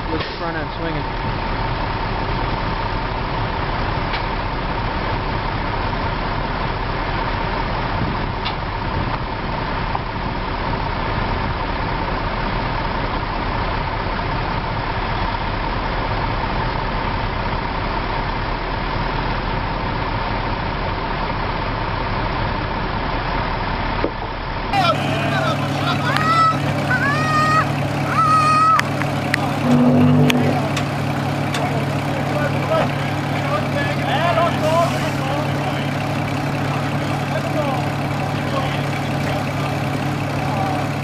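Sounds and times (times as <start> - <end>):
diesel truck engines running: 0.0 - 41.0.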